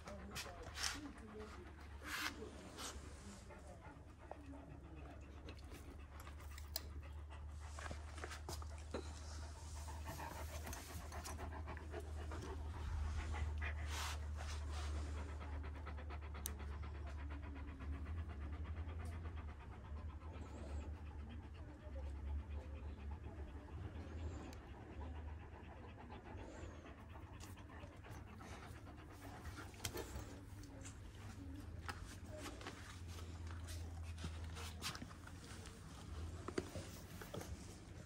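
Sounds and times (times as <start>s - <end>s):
dog panting: 0.0s - 38.0s.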